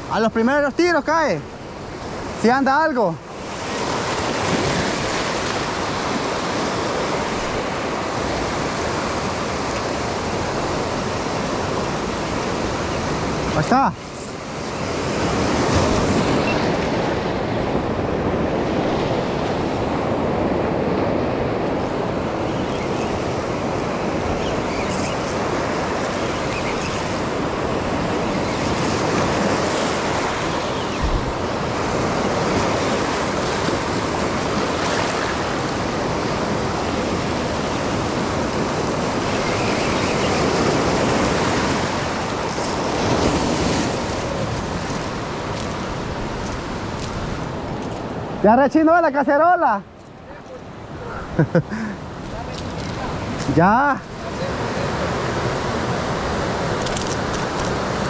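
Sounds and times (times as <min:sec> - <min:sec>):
surf breaking on rocky beach: 0:00.0 - 0:48.8.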